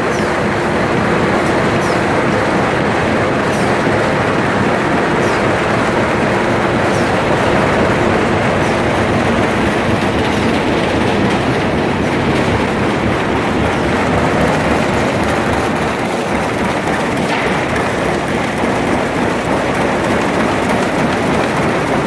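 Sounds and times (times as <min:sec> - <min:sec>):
boards clattering through rollers: 0:00.0 - 0:22.0
printing machine running: 0:00.0 - 0:22.0.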